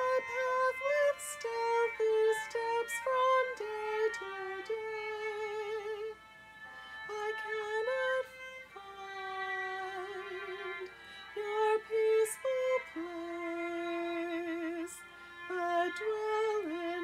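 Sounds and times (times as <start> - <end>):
slow gentle melody with vibrato: 0.0 - 17.0.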